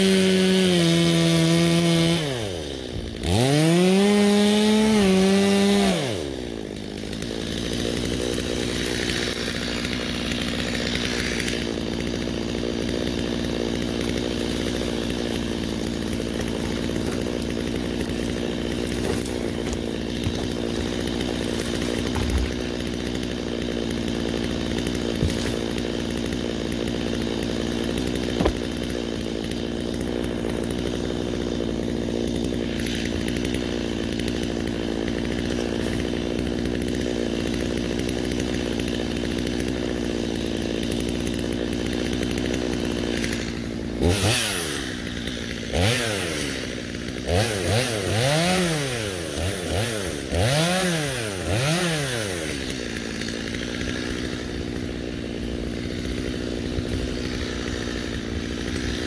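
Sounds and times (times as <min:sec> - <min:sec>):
chainsaw idling: 0:00.0 - 0:59.0.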